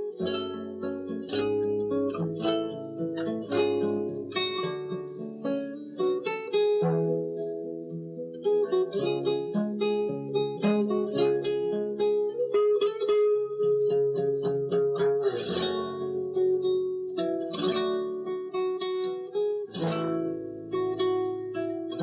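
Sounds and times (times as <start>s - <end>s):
guitar music: 0.0s - 22.0s.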